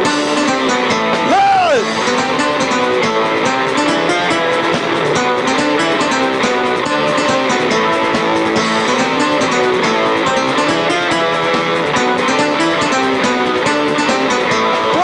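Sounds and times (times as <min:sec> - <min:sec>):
punk rock band playing: 0:00.0 - 0:15.0.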